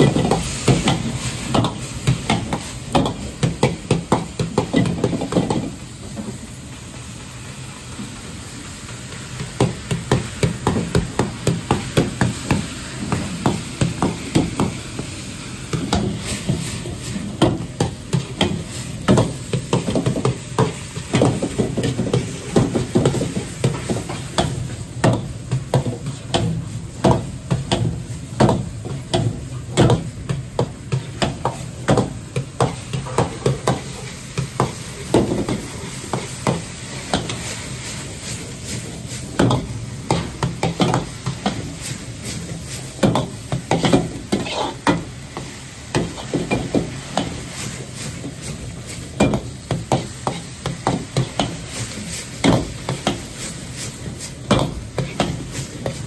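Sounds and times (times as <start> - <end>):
ladle scraping and knocking wok: 0.0 - 6.5, 9.1 - 56.0
meat sizzling in pan: 0.0 - 56.0.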